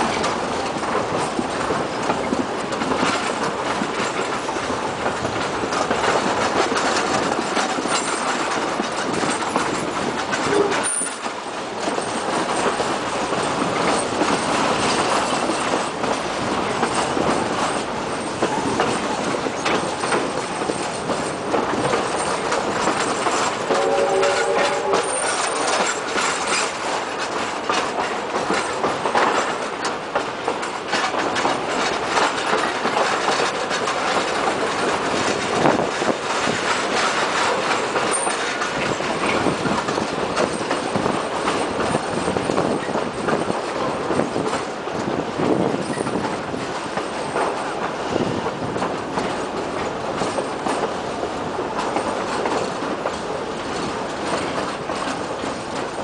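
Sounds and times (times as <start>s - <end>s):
train wheels rumbling: 0.0s - 56.0s
wheels clacking over rail joints: 0.0s - 56.0s.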